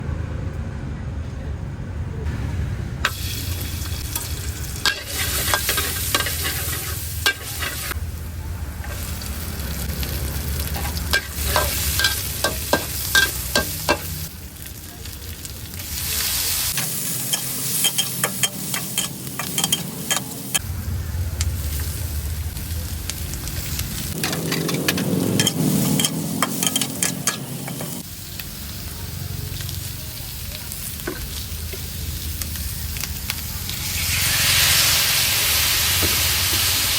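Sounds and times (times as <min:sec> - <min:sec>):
food sizzling in pan: 0:03.0 - 0:36.9.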